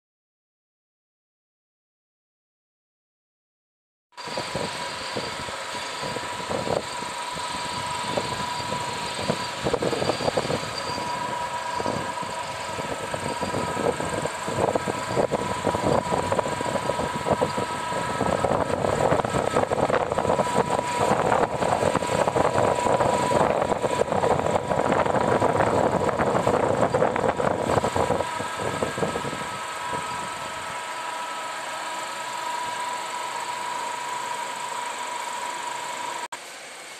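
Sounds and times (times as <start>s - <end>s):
lathe running: 4.2s - 36.6s.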